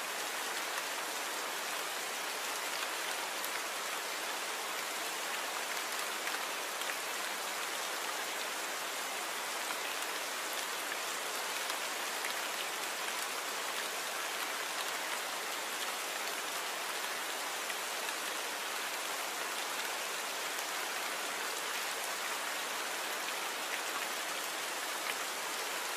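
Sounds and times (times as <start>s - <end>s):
torrential rain: 0.0s - 25.9s.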